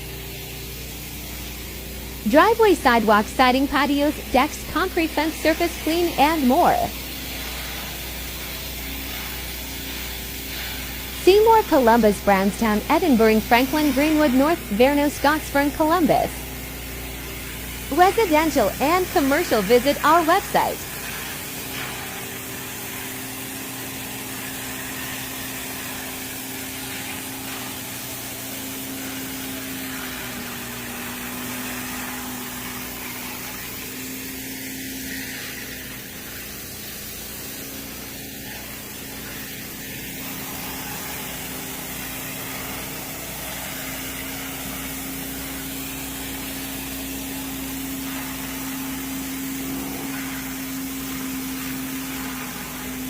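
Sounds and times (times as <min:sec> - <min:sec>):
high-pressure water spray hiss: 0:00.0 - 0:53.0
pressure washer motor humming: 0:00.0 - 0:53.0.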